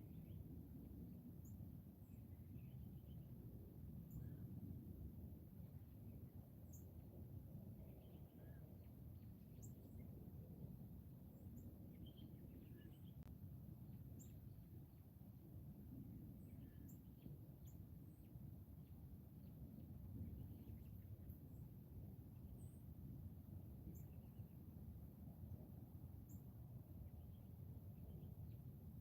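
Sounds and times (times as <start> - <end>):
faint bird chirps: 0.0 - 4.8, 5.7 - 15.1, 15.9 - 25.0, 26.2 - 29.0.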